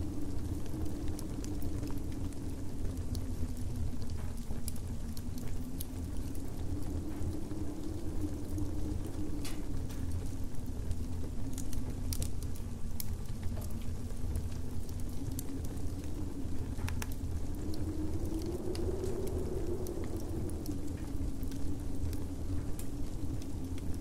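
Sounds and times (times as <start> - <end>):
campfire crackling and popping: 0.0 - 24.0
steady low rumble: 0.0 - 24.0
wind-like howl: 0.0 - 24.0.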